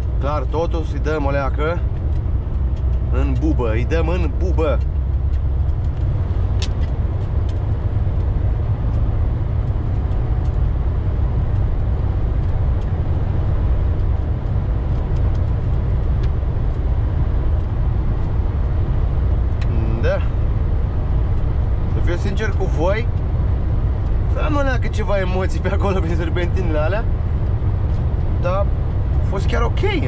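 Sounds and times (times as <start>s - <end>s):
truck diesel engine drone: 0.0s - 30.0s.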